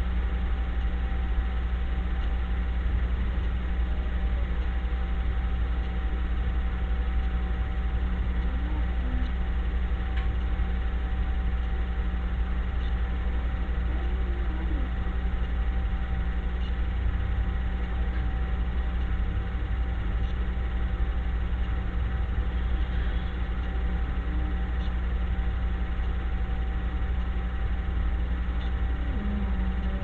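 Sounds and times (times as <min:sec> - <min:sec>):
faint constant tone: 0:00.0 - 0:30.0
low mechanical hum: 0:00.0 - 0:30.0.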